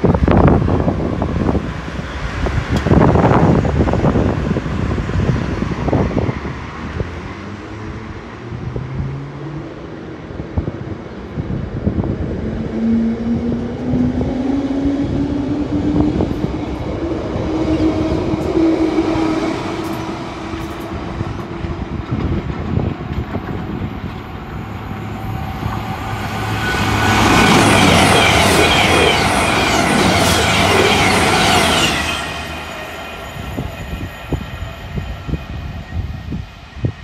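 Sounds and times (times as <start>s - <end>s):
express train passing at speed: 0.0s - 37.0s.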